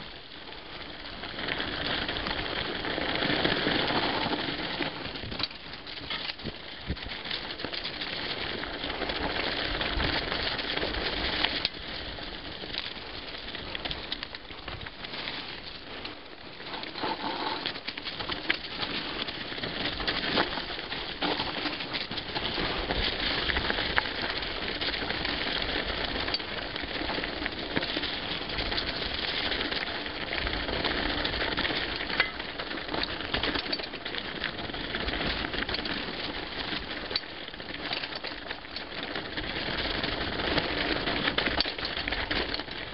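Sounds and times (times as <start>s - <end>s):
bike rattling over bumps: 0.0s - 42.9s
bike tyres on dirt: 0.0s - 42.9s.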